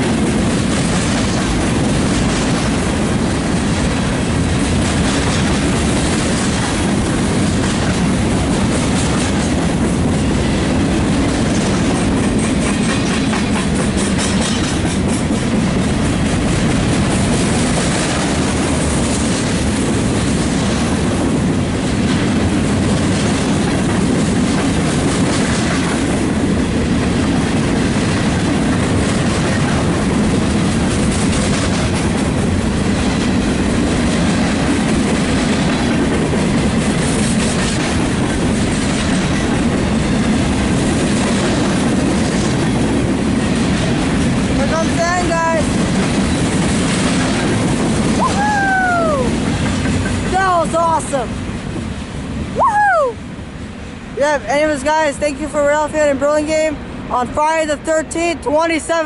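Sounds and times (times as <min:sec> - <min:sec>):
freight train wheels rumbling and clacking: 0:00.0 - 0:59.0.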